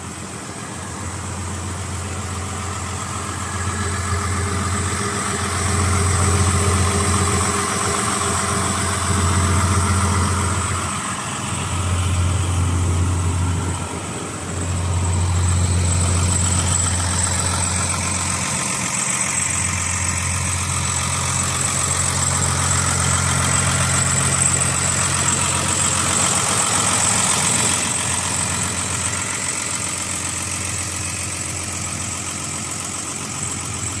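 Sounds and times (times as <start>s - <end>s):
high whine: 0.0s - 34.0s
tractor diesel engine idling: 0.0s - 34.0s.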